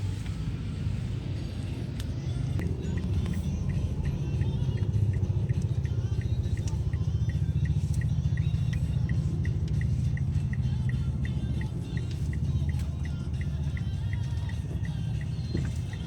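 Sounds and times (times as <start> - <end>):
vehicle rumbling on wet road: 0.0 - 16.0.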